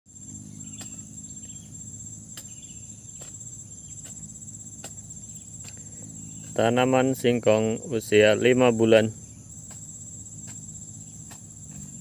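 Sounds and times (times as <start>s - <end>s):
insects chirring: 0.1s - 12.0s
low steady hum: 0.1s - 12.0s.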